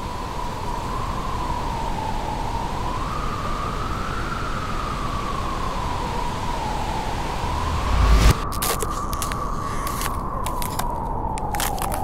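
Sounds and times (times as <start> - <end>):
wind blowing with whistling tone: 0.0 - 12.0.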